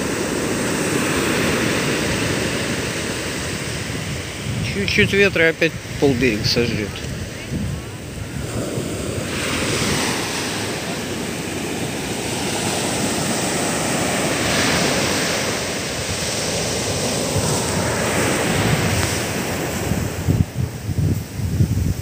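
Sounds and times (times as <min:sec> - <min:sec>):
surf breaking on a beach: 0:00.0 - 0:22.0
wind buffeting microphone: 0:00.0 - 0:22.0.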